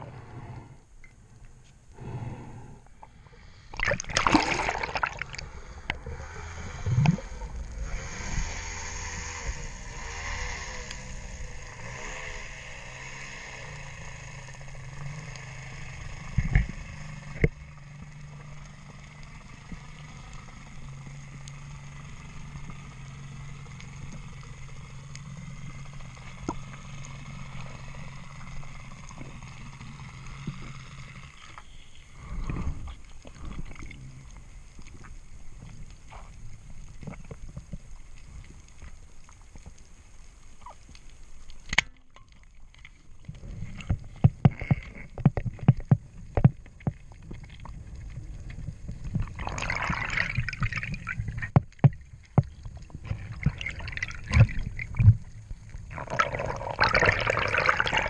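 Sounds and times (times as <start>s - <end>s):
faint underwater gurgling: 0.0s - 58.0s
water rushing underwater: 2.0s - 20.9s, 23.8s - 58.0s.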